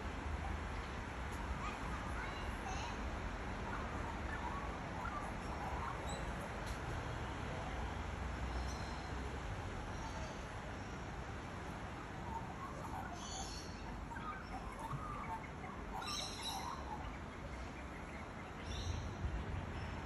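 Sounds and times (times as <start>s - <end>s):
small birds chirping: 0.6s - 7.4s, 8.4s - 20.0s.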